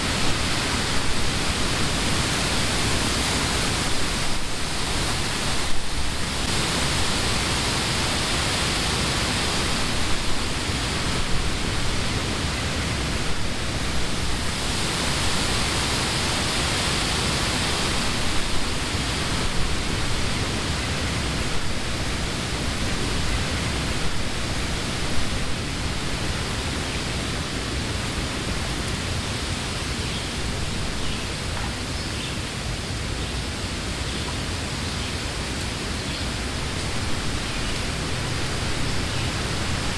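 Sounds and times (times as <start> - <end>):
wind rushing through leaves: 0.0 - 39.9.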